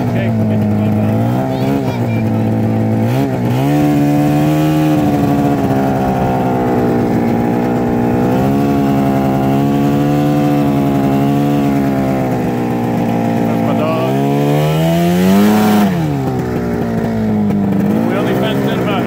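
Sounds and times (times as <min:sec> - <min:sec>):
snowmobile engine droning: 0:00.0 - 0:19.0.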